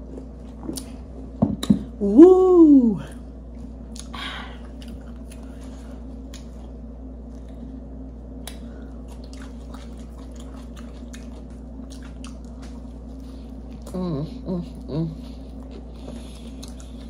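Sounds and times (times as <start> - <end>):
person chewing and smacking: 0.0 - 1.0, 3.1 - 17.0
low hum: 0.0 - 17.0.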